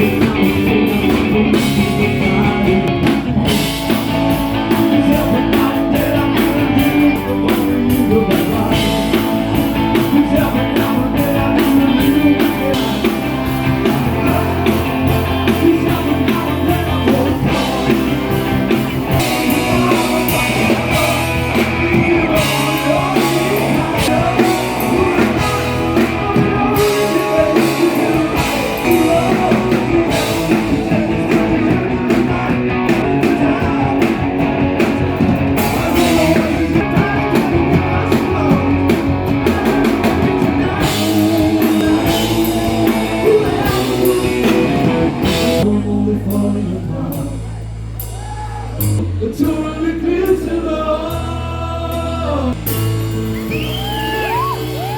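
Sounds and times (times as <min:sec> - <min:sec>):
drum kit beat: 0:00.0 - 0:45.7, 0:52.5 - 0:54.9
electric guitar: 0:00.0 - 0:47.3, 0:51.0 - 0:54.9
person singing: 0:00.0 - 0:52.9.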